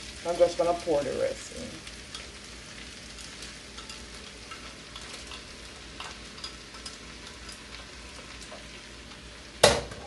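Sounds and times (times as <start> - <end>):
rice sizzling in oil: 0.0 - 10.0.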